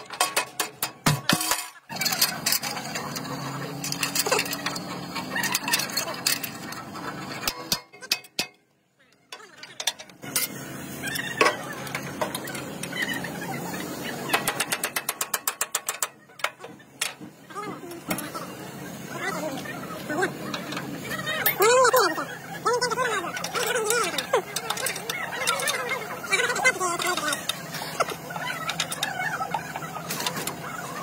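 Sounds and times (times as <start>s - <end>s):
workshop din: 0.0s - 31.0s.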